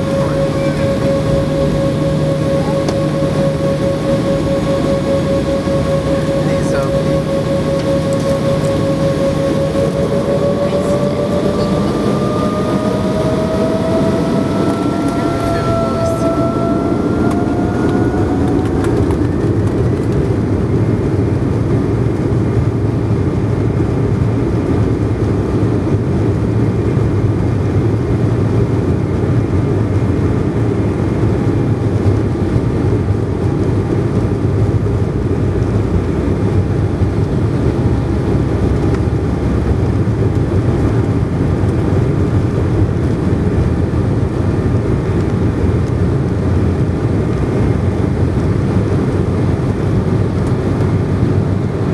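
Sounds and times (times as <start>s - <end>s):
jet engine rumble: 0.0s - 51.9s
jet engines whining: 0.0s - 51.9s.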